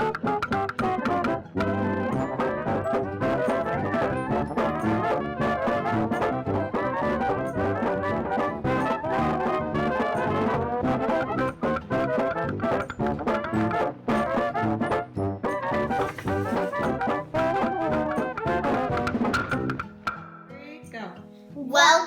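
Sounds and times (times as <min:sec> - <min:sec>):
upbeat brass band music: 0:00.0 - 0:19.8.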